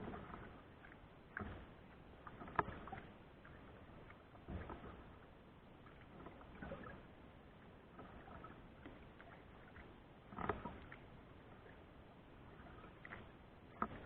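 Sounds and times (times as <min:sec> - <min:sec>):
paddle splashes and drips: 0:00.0 - 0:14.0.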